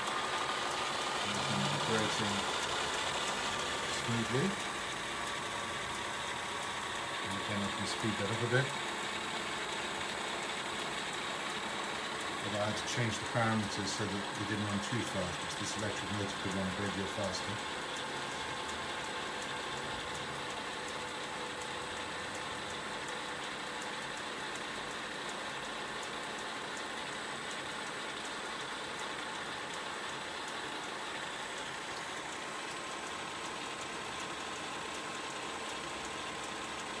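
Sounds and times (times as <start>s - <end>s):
milling machine whirring: 0.0s - 37.0s.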